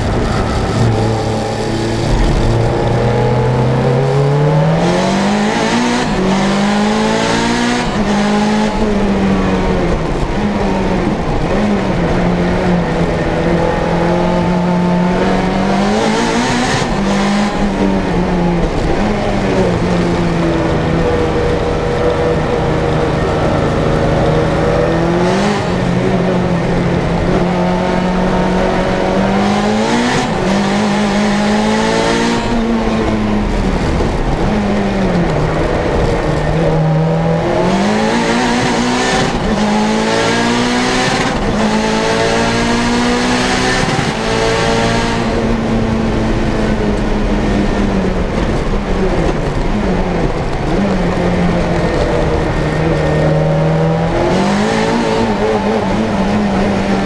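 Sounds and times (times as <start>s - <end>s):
turbocharged race car engine revving: 0.0s - 57.0s.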